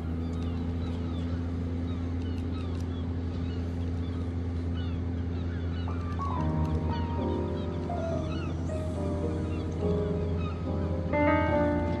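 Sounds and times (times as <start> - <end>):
gull calls: 0.0 - 12.0
ship engines droning: 0.0 - 12.0.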